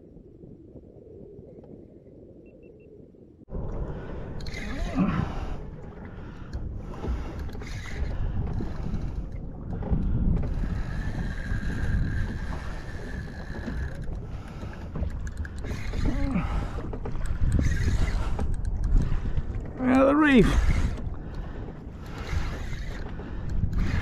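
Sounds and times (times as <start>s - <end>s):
water noise: 0.0s - 24.0s
wind: 0.0s - 24.0s.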